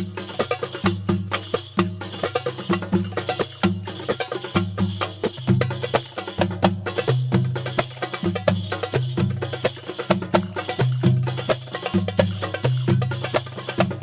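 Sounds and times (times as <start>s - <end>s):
music with percussive beat and bass: 0.0s - 14.0s.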